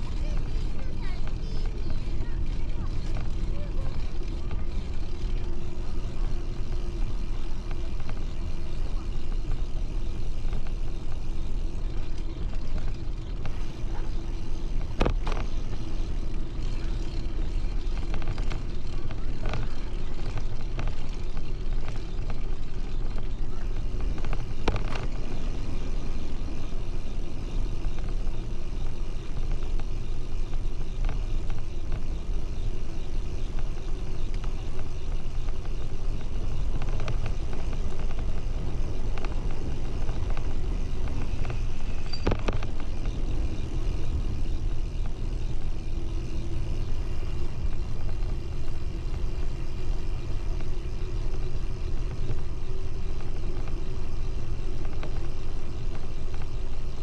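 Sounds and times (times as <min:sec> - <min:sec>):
tyres rolling on asphalt: 0:00.0 - 0:57.0.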